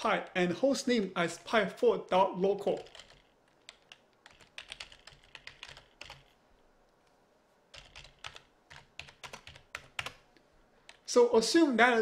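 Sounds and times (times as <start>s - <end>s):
faint keyboard typing: 1.3s - 11.1s.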